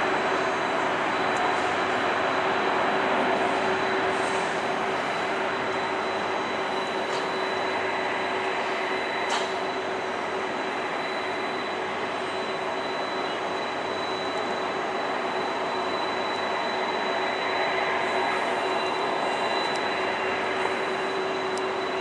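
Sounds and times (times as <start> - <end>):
high whine: 0.0 - 22.0
jet engine roar: 0.0 - 22.0.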